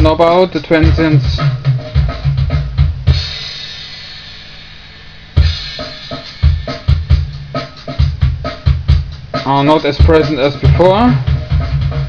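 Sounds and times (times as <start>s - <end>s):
kick and snare beat: 0.0s - 4.3s, 5.3s - 12.0s
drum kit loop: 0.0s - 12.0s.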